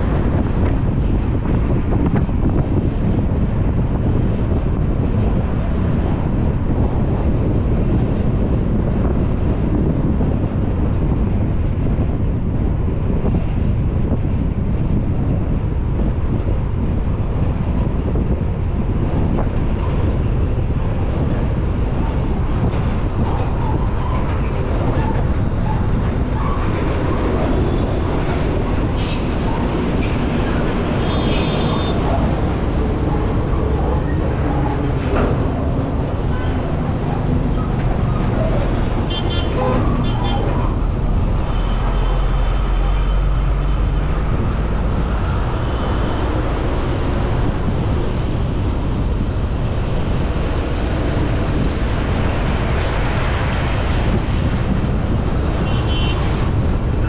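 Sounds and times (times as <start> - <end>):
tyres rumbling on road: 0.0 - 57.0
wind noise: 0.0 - 57.0.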